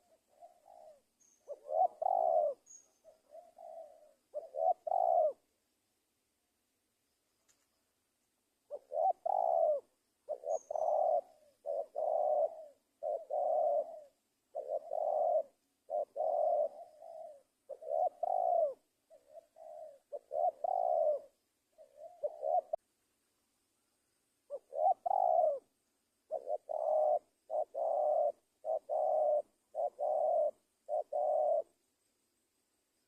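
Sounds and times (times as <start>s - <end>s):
dove cooing: 0.0s - 5.6s, 8.6s - 22.9s, 24.5s - 31.8s.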